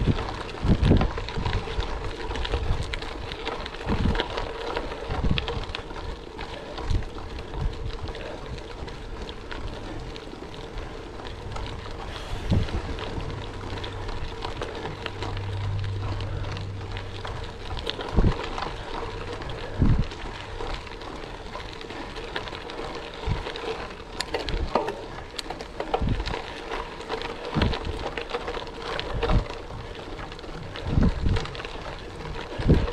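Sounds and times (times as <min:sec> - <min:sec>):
wind on microphone: 0:00.0 - 0:05.9, 0:06.8 - 0:22.0, 0:25.9 - 0:26.6, 0:27.5 - 0:28.1, 0:29.0 - 0:32.9
bike tyres crunching on gravel: 0:00.0 - 0:32.9.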